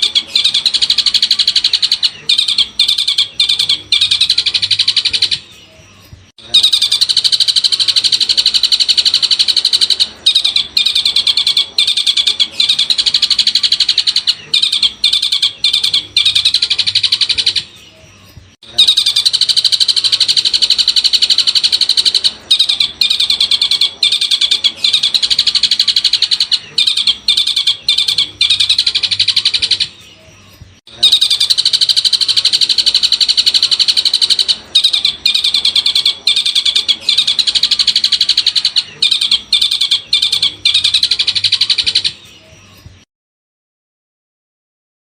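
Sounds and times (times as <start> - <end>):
shrike high chattering song: 0.0 - 42.8.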